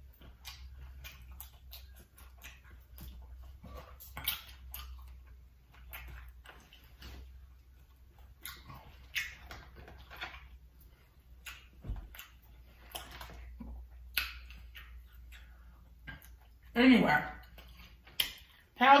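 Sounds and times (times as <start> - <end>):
wet chewing and mouth smacks: 0.0 - 16.7, 17.3 - 18.8.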